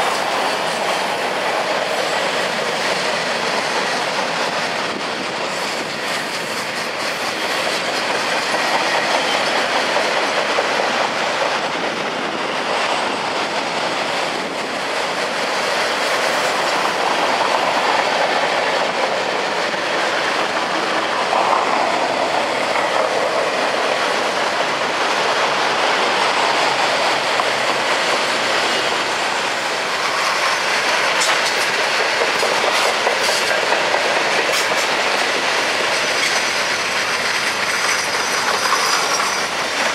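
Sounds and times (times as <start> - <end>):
freight train cars rolling past: 0.0 - 39.9
wheels clacking over rail joints: 0.0 - 39.9.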